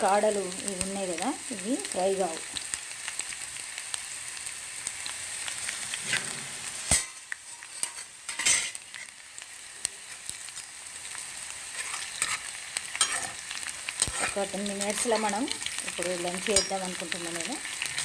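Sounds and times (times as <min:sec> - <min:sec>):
cauliflower deep-frying in oil: 0:00.0 - 0:18.0.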